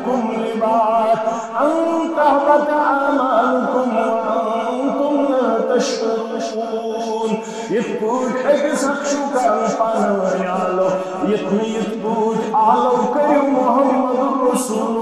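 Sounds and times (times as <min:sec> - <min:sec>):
man chanting with echo: 0:00.0 - 0:15.0.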